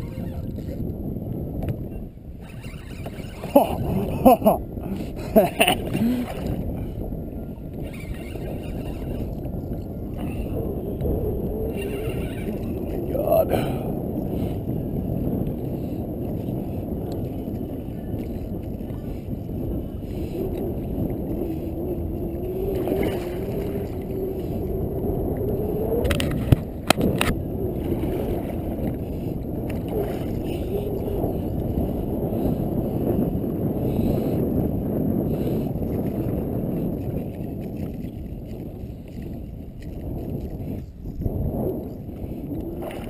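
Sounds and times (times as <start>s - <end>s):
water lapping against kayak: 0.0s - 43.0s
wind on microphone: 0.0s - 43.0s.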